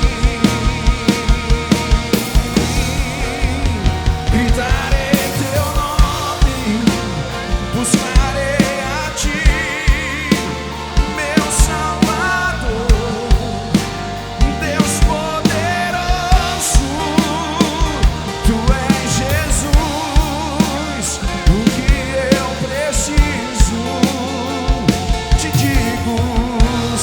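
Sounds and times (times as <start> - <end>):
drums beating: 0.0 - 27.0
live band playing: 0.0 - 27.0.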